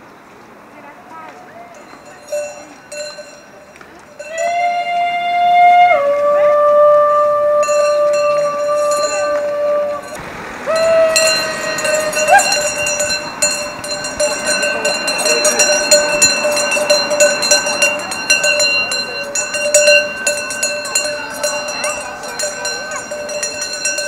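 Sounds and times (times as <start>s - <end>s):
cowbells clanging: 1.1s - 6.0s, 6.9s - 24.0s.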